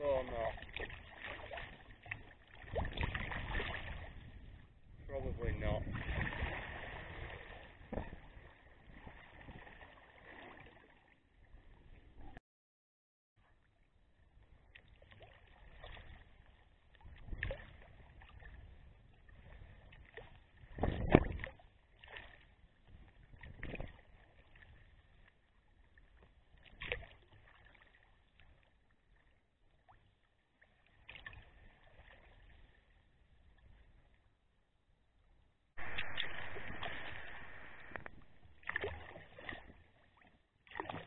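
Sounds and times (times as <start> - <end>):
water splashing against kayak: 0.0 - 12.4, 13.4 - 34.4, 35.8 - 41.0.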